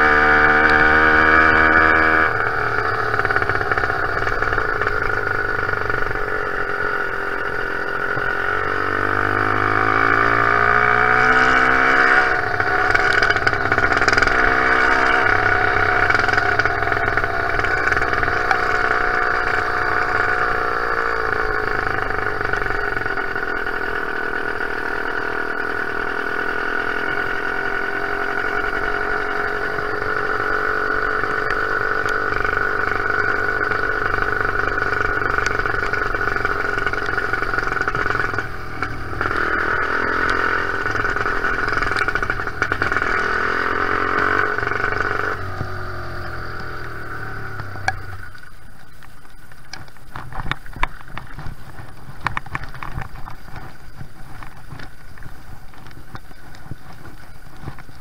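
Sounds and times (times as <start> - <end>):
two-stroke engine revving: 0.0 - 48.6.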